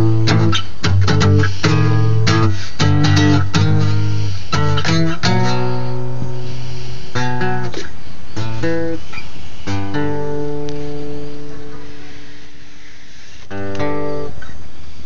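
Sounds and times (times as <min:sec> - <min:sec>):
acoustic guitar strumming chords: 0:00.0 - 0:14.6.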